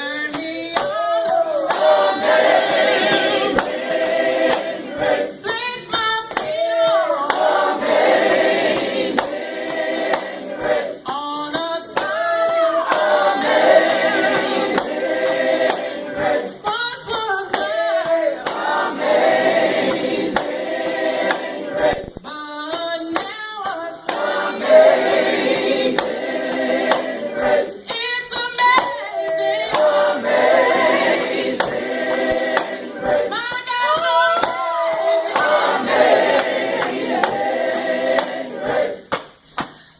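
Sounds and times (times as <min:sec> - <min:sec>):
lead voice singing: 0:00.0 - 0:39.1
gospel choir singing: 0:00.0 - 0:39.9
percussive beat: 0:00.0 - 0:39.9.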